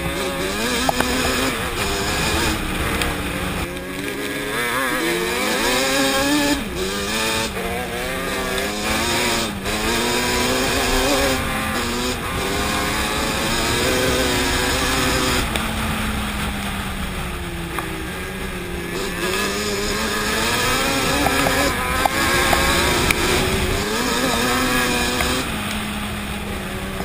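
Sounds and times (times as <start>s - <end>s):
two-stroke engine revving: 0.0s - 27.0s.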